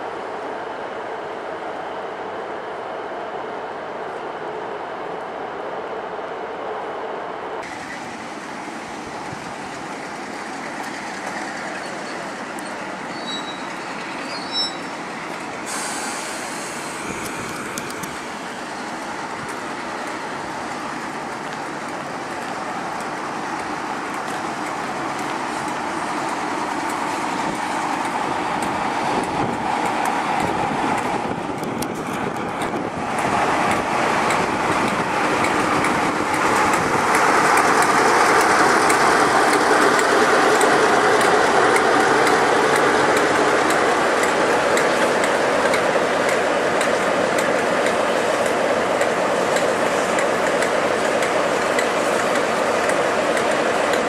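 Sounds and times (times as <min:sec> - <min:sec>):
diesel locomotive engine: 0:00.0 - 0:54.0
train wheels on rails: 0:00.0 - 0:54.0.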